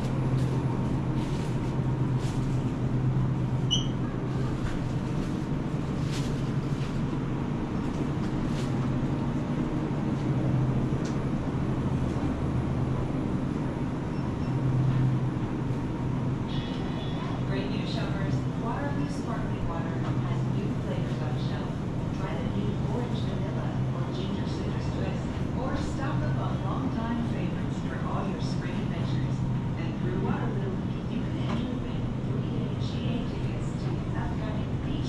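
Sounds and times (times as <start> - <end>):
refrigerator and ventilation hum: 0.0 - 35.0.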